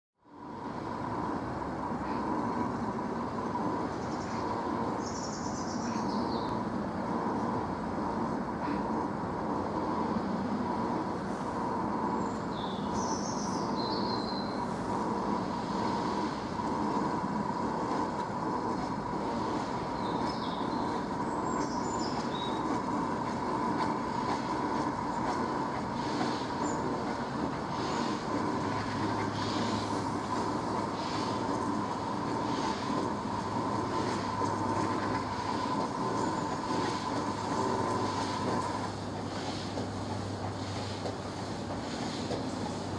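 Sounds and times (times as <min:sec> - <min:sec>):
distant steam locomotive: 0:00.2 - 0:42.9.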